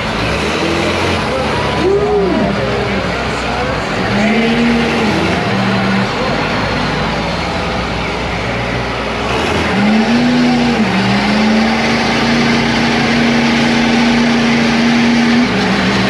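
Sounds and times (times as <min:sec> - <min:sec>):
truck engine at high revs: 0:00.0 - 0:16.0.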